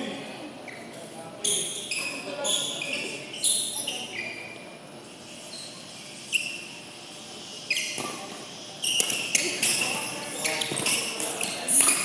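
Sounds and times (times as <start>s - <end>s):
sports shoes squeaking on floor: 0.6s - 4.7s, 5.3s - 6.8s, 7.4s - 12.0s.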